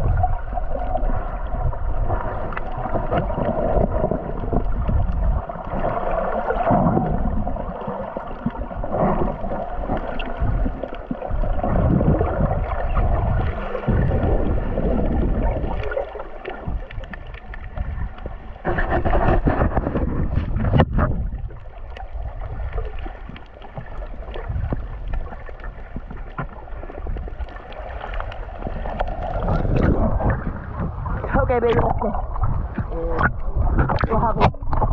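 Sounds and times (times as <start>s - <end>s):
muffled underwater rumbling: 0.0s - 34.9s
water sloshing: 0.0s - 34.9s.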